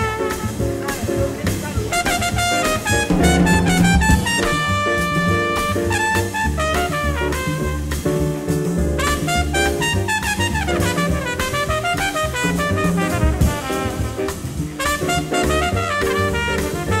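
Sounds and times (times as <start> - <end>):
jazz music with brass and drums: 0.0 - 17.0.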